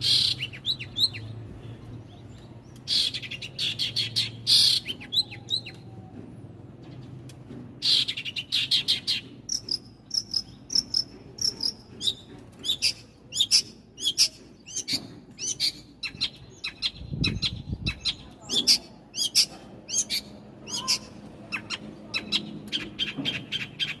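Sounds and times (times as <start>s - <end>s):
small birds chirping: 0.0s - 5.9s, 6.7s - 24.0s.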